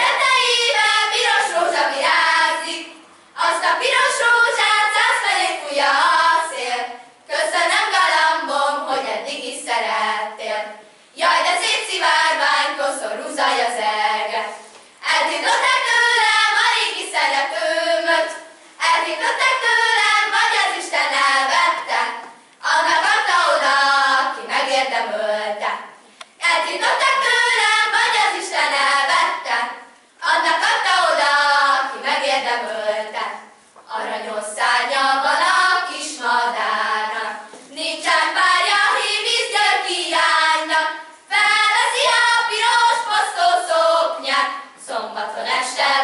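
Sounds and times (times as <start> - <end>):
girls singing unaccompanied: 0.0 - 46.0.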